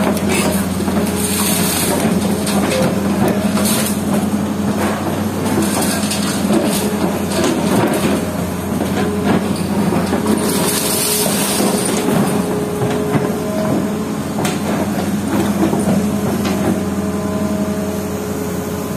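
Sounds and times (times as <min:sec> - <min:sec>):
concrete rubble crunching: 0:00.0 - 0:16.8
excavator diesel engine running: 0:00.0 - 0:18.9.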